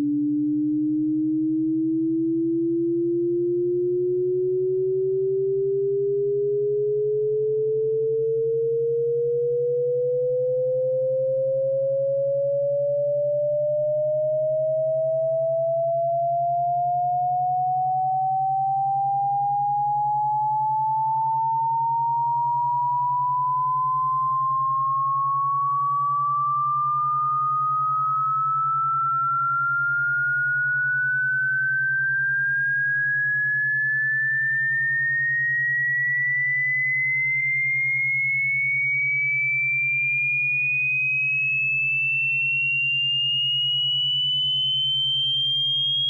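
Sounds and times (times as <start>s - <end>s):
rising sine tone whistle: 0.0s - 46.0s.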